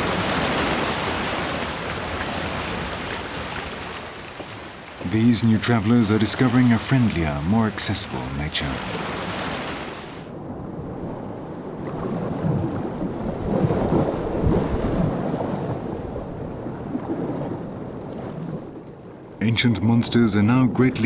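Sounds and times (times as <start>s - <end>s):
muffled rush of water: 0.0s - 21.0s
wind and sea noise: 0.0s - 21.0s.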